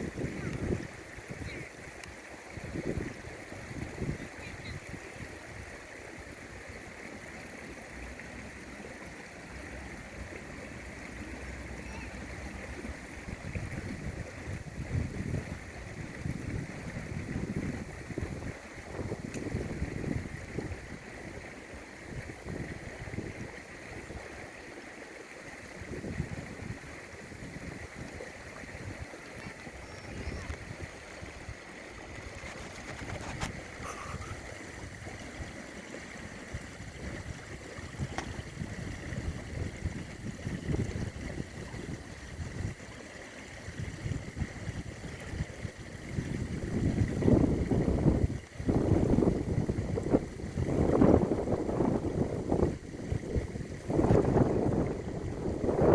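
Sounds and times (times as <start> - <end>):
wind buffeting microphone: 0.0 - 5.7, 12.3 - 24.3, 25.7 - 42.9, 43.5 - 55.9.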